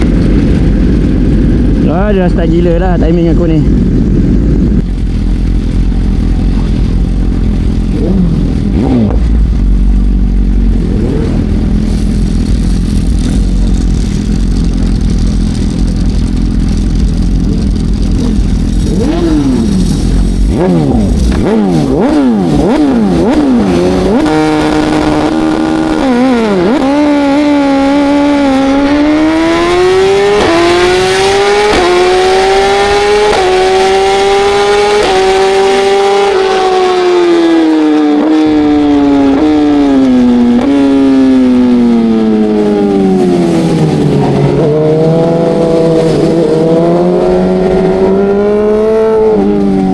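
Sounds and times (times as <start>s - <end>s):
racing motorcycle engine revving: 0.0s - 49.9s.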